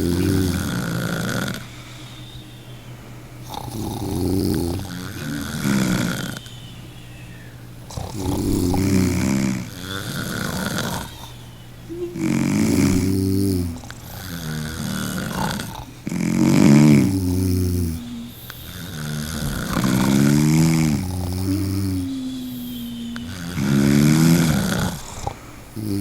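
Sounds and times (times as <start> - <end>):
person snoring: 0.0 - 1.7, 3.4 - 6.4, 7.9 - 11.4, 12.0 - 26.0
quiet breaths: 0.0 - 26.0.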